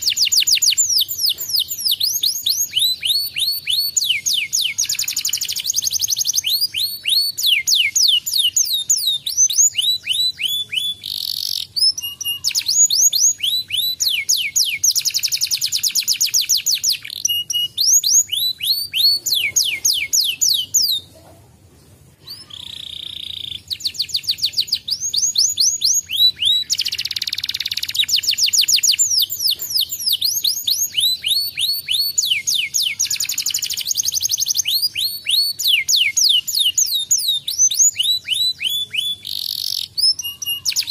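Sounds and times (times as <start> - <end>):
canary singing trills: 0.0 - 21.3, 22.2 - 40.9.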